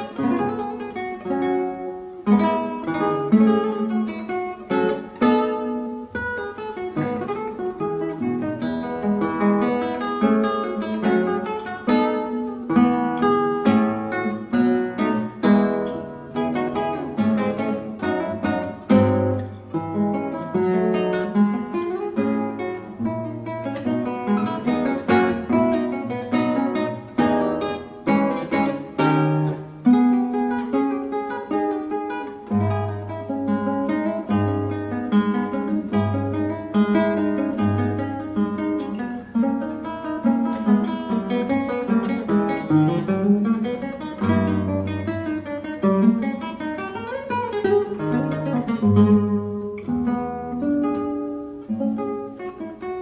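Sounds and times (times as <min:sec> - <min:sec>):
acoustic guitar plucked notes: 0:00.0 - 0:53.0.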